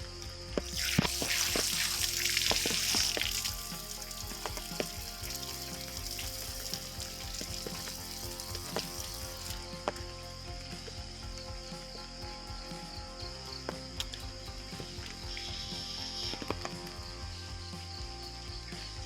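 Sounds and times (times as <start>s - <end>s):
steady hiss: 0.0s - 19.0s
water running and splashing: 0.4s - 19.0s.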